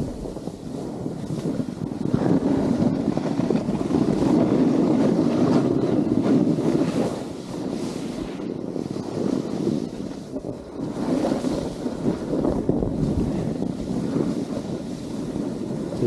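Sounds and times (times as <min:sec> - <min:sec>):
snowboard scraping over snow: 0:00.0 - 0:16.0
wind buffeting microphone: 0:00.0 - 0:16.0.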